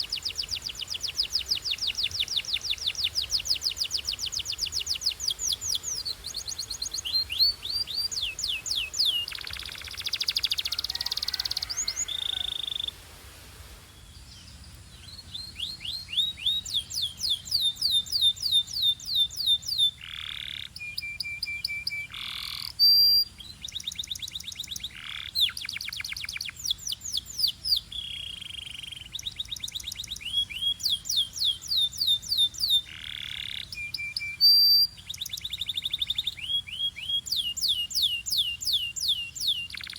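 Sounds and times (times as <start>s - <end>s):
canary singing: 0.0s - 13.0s, 15.0s - 39.9s.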